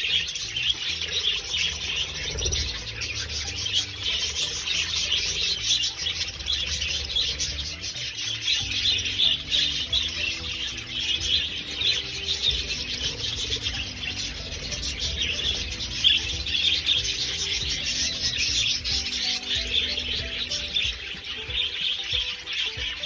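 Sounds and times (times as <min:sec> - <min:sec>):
budgerigars chattering and chirping: 0:00.0 - 0:23.0.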